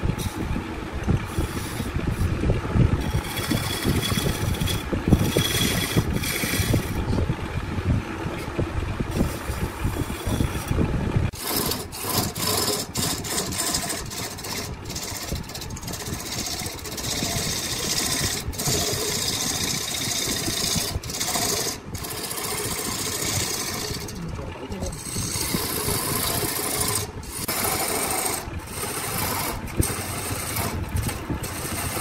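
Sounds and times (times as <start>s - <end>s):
machinery humming: 0.0s - 32.0s.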